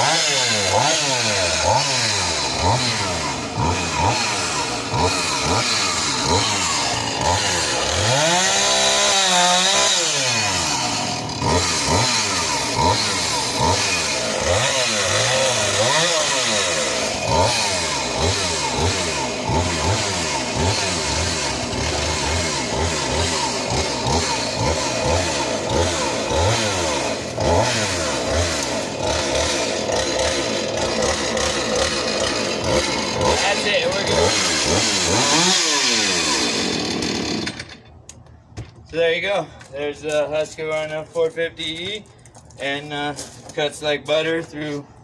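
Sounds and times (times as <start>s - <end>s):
chainsaw cutting through wood: 0.0s - 38.3s.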